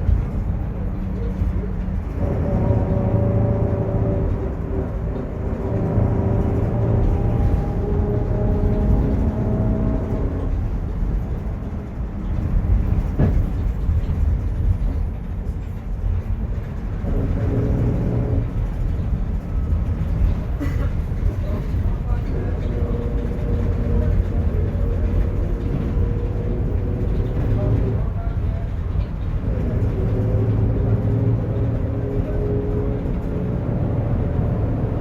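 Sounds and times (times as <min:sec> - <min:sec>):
bus engine rumbling: 0:00.0 - 0:35.0.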